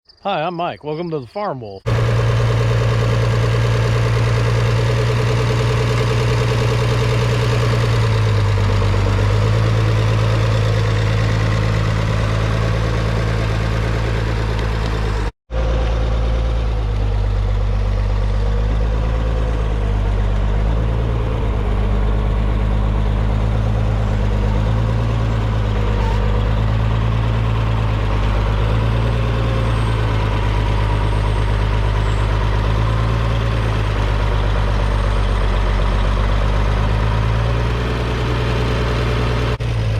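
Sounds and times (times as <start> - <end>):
tractor diesel engine running: 0.2 - 39.9.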